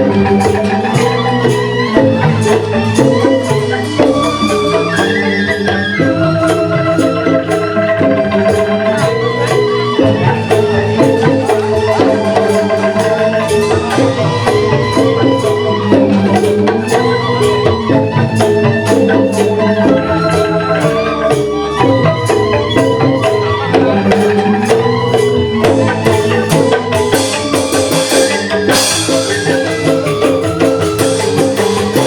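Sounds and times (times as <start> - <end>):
bamboo xylophones: 0.0 - 32.0
percussion strikes: 0.0 - 32.0.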